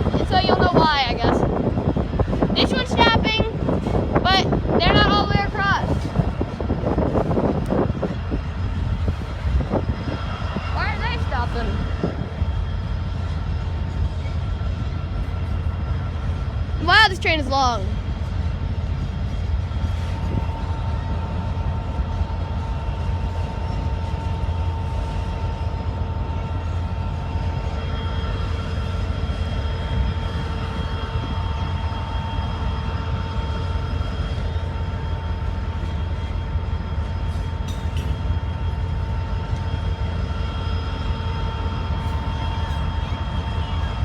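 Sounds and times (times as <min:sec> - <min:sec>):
freight train rumbling: 0:00.0 - 0:44.0.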